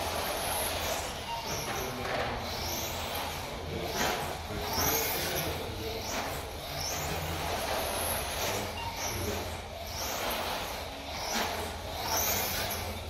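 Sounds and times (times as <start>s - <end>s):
electric motor whining: 0.0s - 13.0s
steady low hum: 0.0s - 13.0s.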